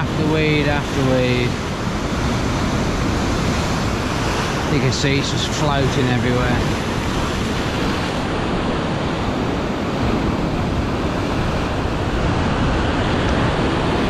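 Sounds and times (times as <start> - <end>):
waves breaking against shore: 0.0 - 14.0
wind blowing across microphone: 0.0 - 14.0.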